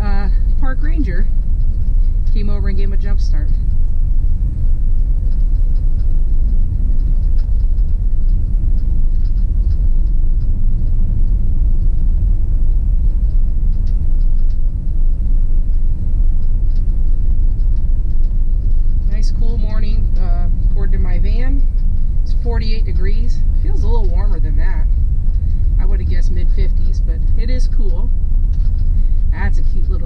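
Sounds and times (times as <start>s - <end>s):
vehicle engine and tyres rumbling: 0.0s - 30.0s.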